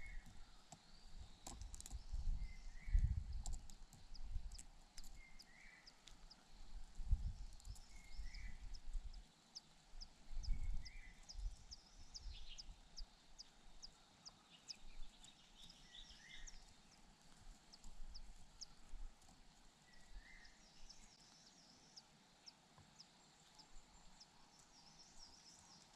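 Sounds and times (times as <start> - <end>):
bird chirp: 0.0 - 6.6, 7.2 - 25.9.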